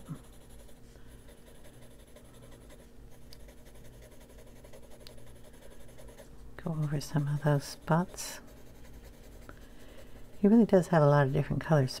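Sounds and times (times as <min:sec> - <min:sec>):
colored pencil scratching on paper: 0:00.0 - 0:12.0.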